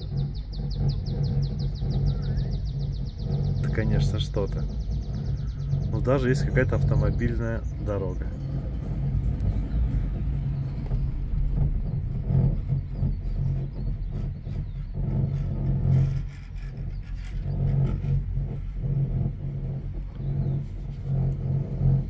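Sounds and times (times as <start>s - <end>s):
cable car cabin rumbling: 0.0s - 22.0s
wind on microphone: 0.0s - 22.0s.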